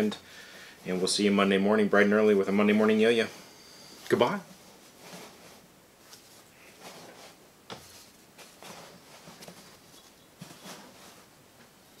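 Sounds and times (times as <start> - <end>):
soft rustling and scuffing: 0.8 - 12.0.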